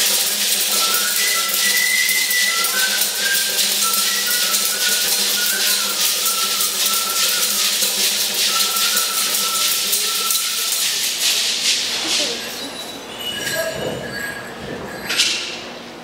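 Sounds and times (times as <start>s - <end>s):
high wavering melody: 0.0s - 11.4s, 12.0s - 15.8s
rattles shaken: 0.0s - 16.0s.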